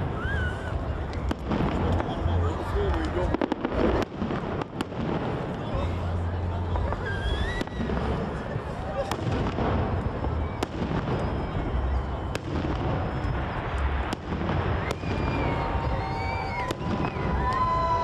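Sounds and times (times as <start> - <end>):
fireworks bangs: 0.0 - 18.0
fireworks whistling: 0.0 - 18.0.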